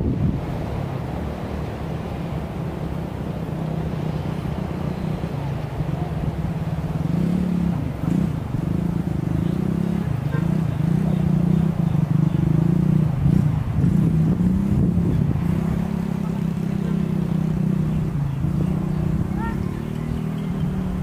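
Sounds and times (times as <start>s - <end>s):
locomotive engine humming: 0.0s - 21.0s.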